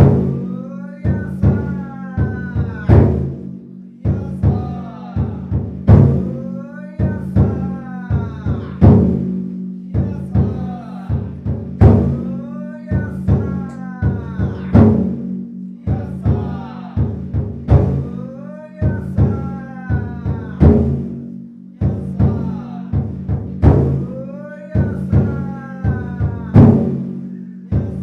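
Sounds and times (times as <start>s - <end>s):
large taiko drum booming: 0.0s - 28.0s.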